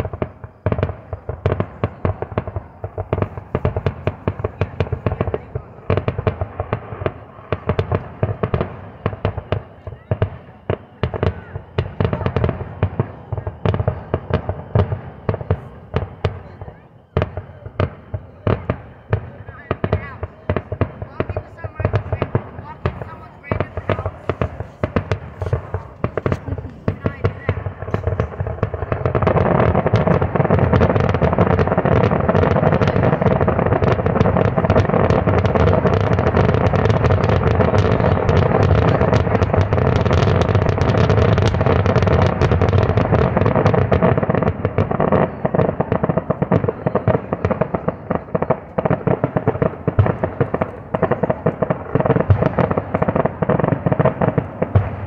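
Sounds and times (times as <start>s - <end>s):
fireworks bursts and crackle: 0.0s - 55.0s.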